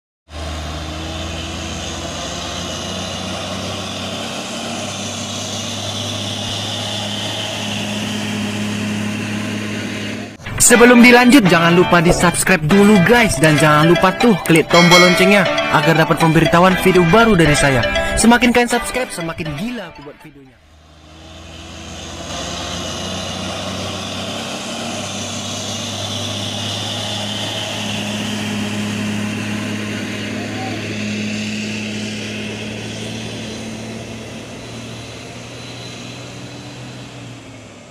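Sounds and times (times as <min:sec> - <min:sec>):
tyre and road noise: 0:00.3 - 0:14.8, 0:20.6 - 0:37.9
diesel truck engine labouring: 0:00.3 - 0:37.9.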